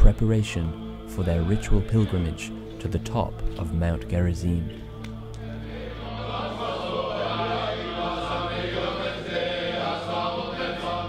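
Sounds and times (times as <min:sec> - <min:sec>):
men chanting prayers in unison: 0:00.0 - 0:11.0
steady low drone: 0:00.0 - 0:11.0.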